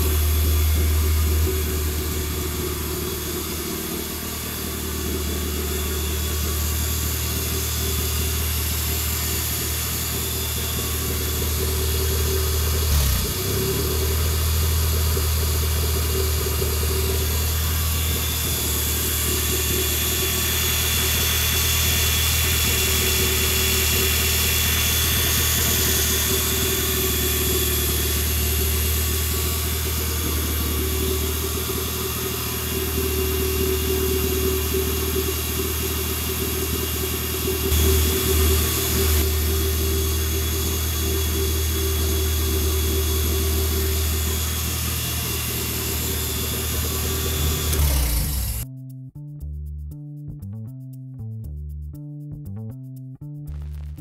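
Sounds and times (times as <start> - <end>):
engine idling: 0.0 - 48.7.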